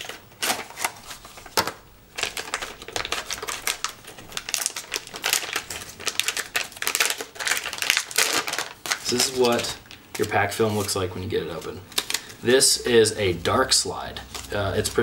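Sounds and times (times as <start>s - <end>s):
foil pouch crinkling and tearing: 0.0s - 12.6s, 13.7s - 15.0s.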